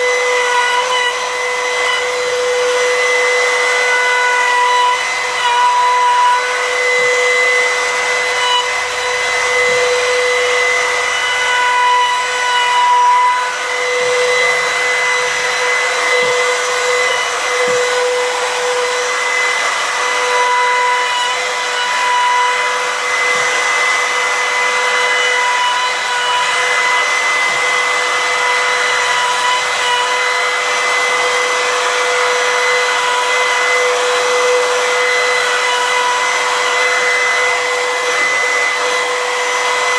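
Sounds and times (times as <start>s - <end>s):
trim router high whine: 0.0s - 39.9s.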